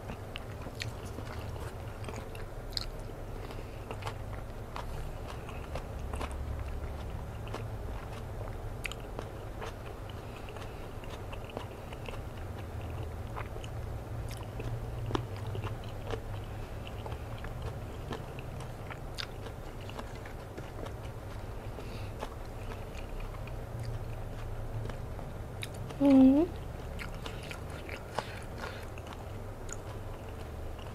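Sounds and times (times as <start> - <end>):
person chewing food: 0.0 - 30.9.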